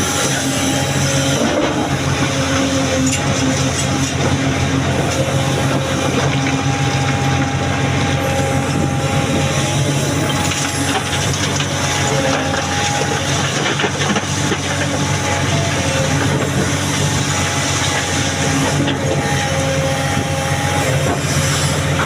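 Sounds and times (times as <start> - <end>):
diesel engine whining under load: 0.0 - 22.0.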